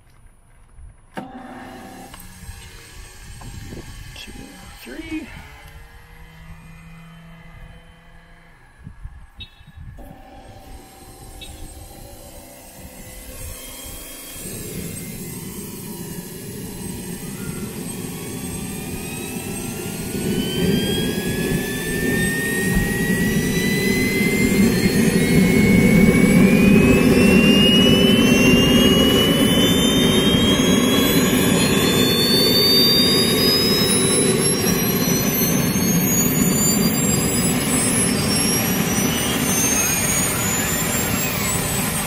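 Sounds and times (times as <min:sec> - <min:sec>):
jet turbine spooling up: 0:01.0 - 0:42.0.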